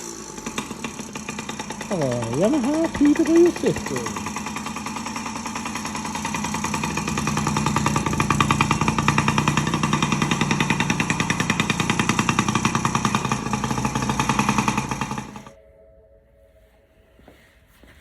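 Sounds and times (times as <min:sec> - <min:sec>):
two-stroke engine running fast: 0:00.0 - 0:15.6.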